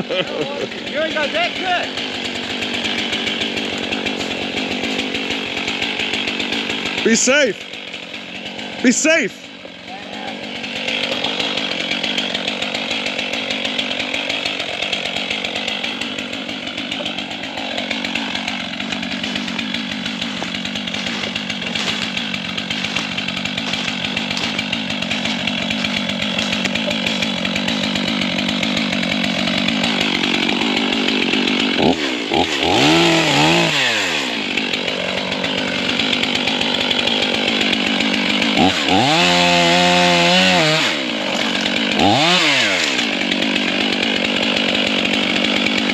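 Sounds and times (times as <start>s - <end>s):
chainsaw cutting log: 0.0s - 45.9s.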